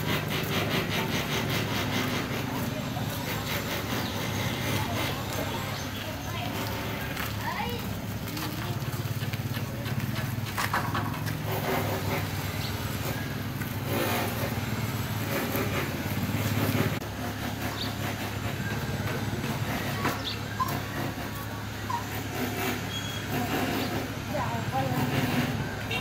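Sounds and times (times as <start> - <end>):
engine running with low pulsing: 0.0 - 26.0.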